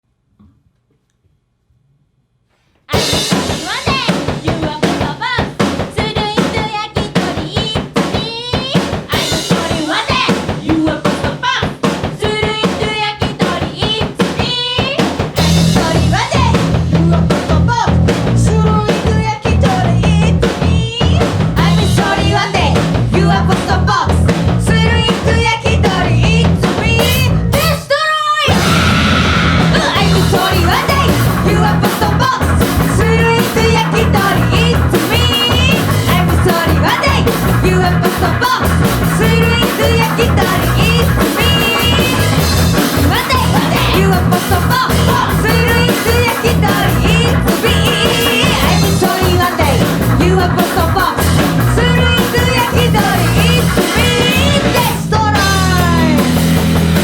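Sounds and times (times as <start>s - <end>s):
drum kit: 2.8s - 57.0s
punk rock band playing: 2.9s - 57.0s.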